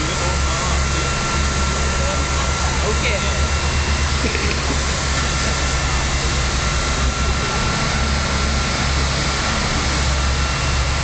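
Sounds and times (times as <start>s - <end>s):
heavy engine low rumble: 0.0s - 11.0s.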